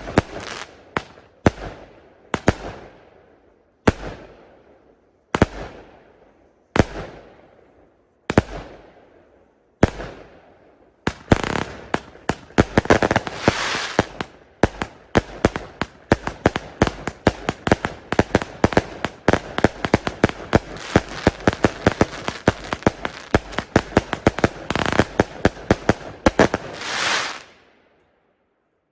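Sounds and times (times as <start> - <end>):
fireworks bangs echoing: 0.0 - 3.2, 3.9 - 9.2, 9.8 - 27.6
fireworks barrage with crackling: 0.0 - 27.7.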